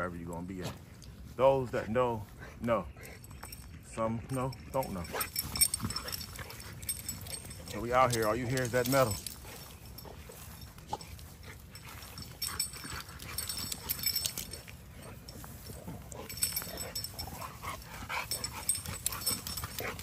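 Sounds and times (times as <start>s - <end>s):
metal collars jangling: 0.0s - 20.0s
dog noises: 0.4s - 20.0s.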